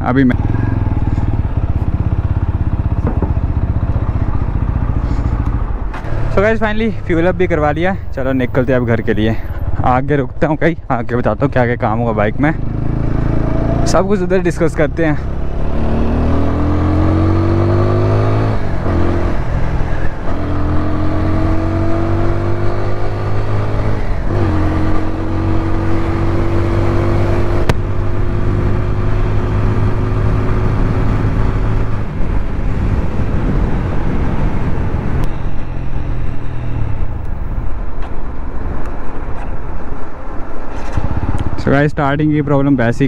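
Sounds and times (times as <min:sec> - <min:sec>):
motorcycle engine accelerating: 0:00.0 - 0:10.0, 0:12.2 - 0:38.0, 0:40.6 - 0:42.2
wind and road noise: 0:00.0 - 0:43.0.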